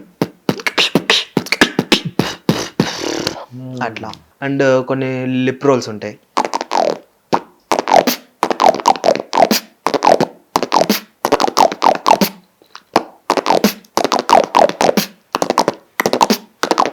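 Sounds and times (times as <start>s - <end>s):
beatboxer lip rolls: 0.0s - 4.3s, 6.4s - 16.9s.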